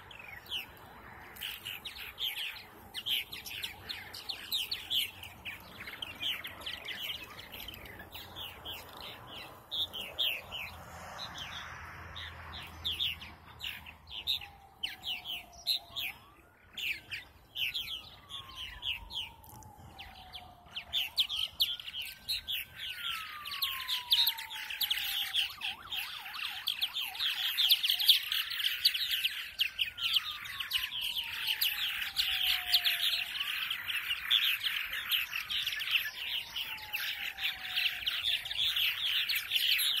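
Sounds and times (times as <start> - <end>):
birds chirping and chattering: 0.0 - 40.0.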